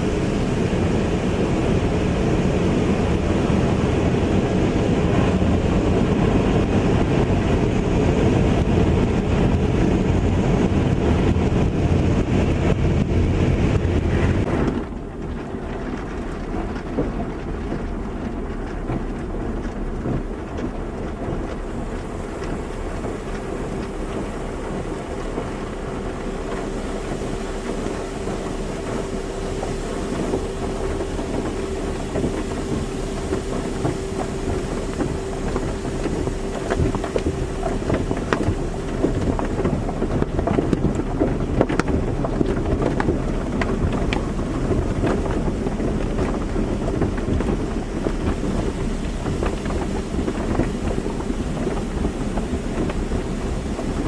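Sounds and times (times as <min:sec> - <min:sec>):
car wash water spray: 0:00.0 - 0:54.0
steady hum: 0:00.0 - 0:54.0.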